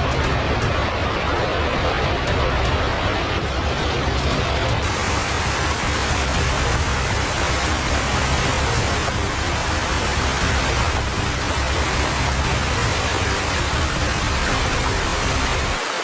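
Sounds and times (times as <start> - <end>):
heavy rain: 0.0 - 16.0
rushing floodwater: 0.0 - 16.0.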